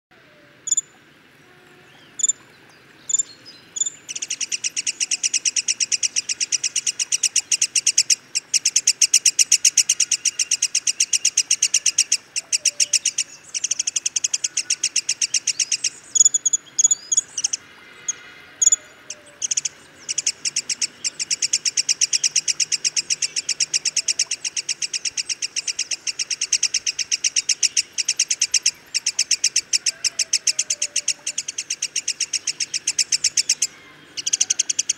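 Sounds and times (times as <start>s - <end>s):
bird chirps and rattling call: 0.6s - 1.0s, 2.1s - 2.5s, 3.1s - 34.9s.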